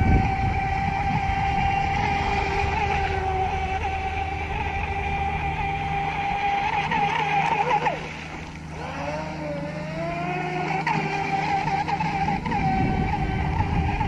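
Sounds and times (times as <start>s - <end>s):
electric boat motor whining: 0.0s - 14.0s.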